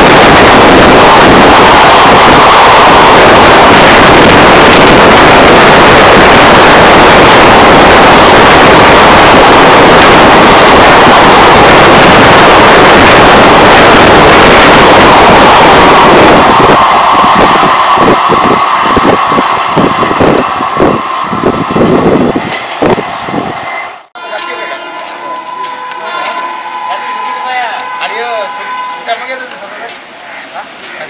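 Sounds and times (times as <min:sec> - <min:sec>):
train coaches rushing past: 0:00.0 - 0:31.0.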